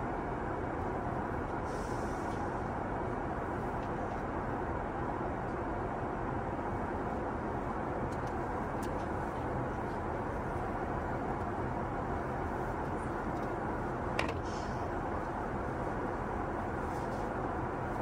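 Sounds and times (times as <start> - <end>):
airliner cabin noise: 0.0 - 18.0.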